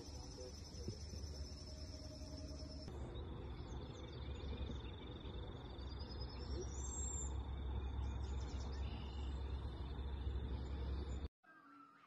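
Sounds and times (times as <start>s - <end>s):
bird chirps: 0.0s - 11.8s.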